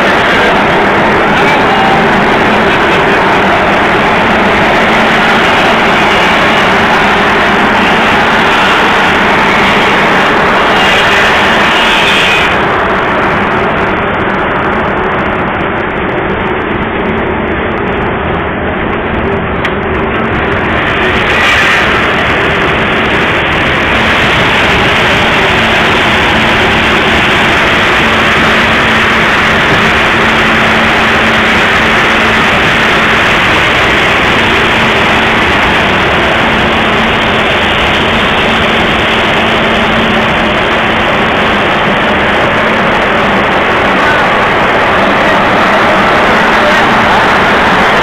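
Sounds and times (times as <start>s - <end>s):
low machine hum: 0.0s - 48.0s
machinery rushing noise: 0.0s - 48.0s.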